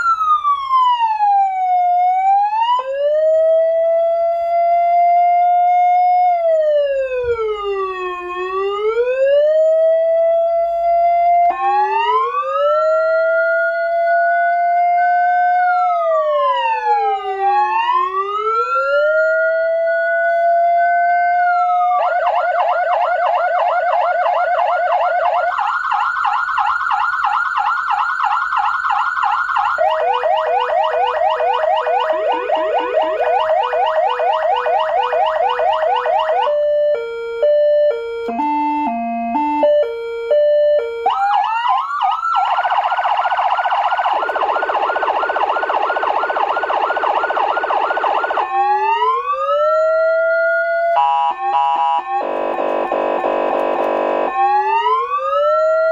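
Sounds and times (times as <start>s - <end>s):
electronic siren warbles and yelps: 0.0s - 55.9s.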